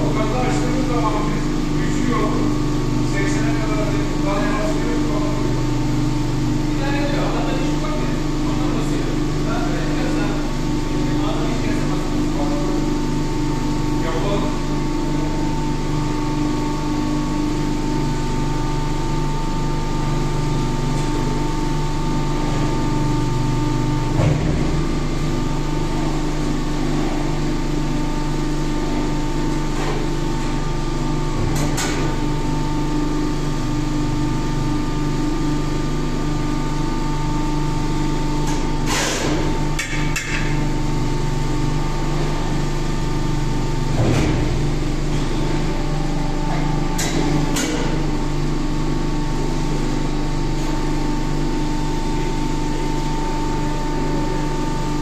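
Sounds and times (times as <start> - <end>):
hydraulic unit humming and whining: 0.0 - 55.0.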